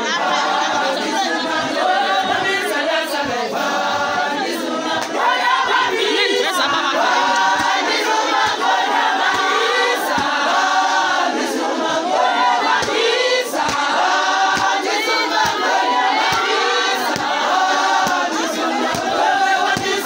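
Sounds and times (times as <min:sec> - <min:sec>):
women singing a hymn in chorus: 0:00.0 - 0:20.0.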